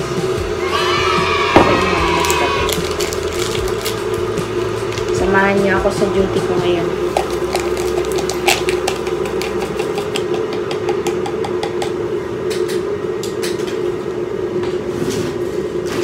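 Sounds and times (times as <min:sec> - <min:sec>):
electric kettle heating water: 0:00.0 - 0:14.9.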